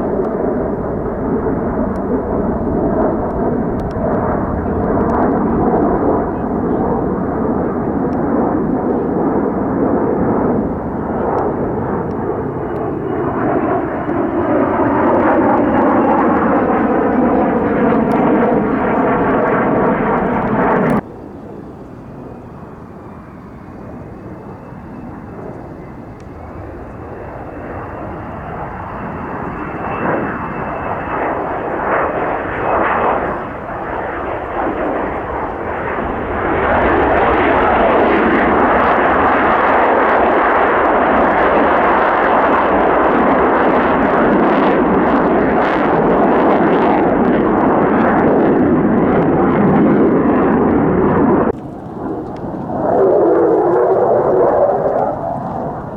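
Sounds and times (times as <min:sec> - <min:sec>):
fighter jet engine roar: 0:00.0 - 0:55.9.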